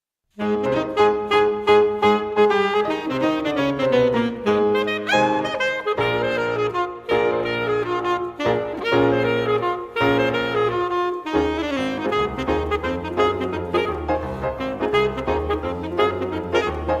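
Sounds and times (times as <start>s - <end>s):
jazzy saxophone music: 0.3s - 17.0s.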